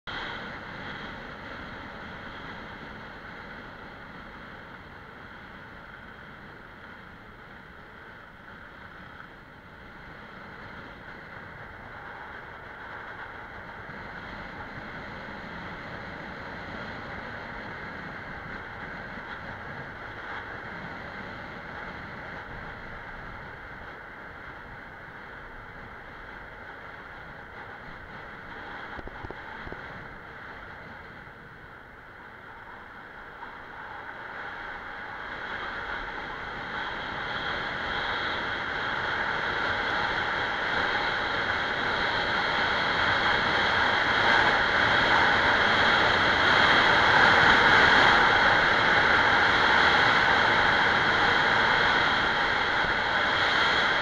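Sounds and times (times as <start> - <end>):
wind rushing over microphone: 0.1 - 54.0.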